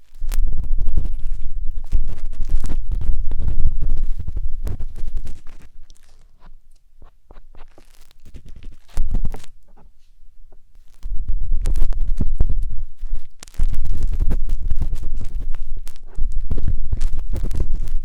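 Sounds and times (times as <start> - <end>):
matchstick scratching on microphone: 0.0 - 10.1, 10.8 - 18.0.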